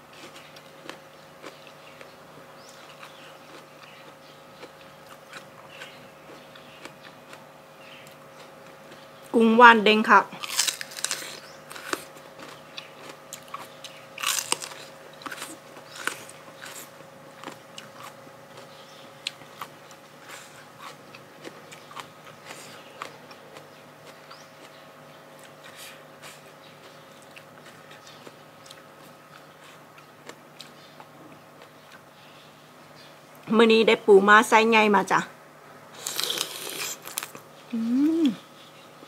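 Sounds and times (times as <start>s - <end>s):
crunching and chewing food: 0.0s - 9.4s, 10.2s - 33.5s, 36.0s - 39.0s
faint steady hum: 0.0s - 39.0s.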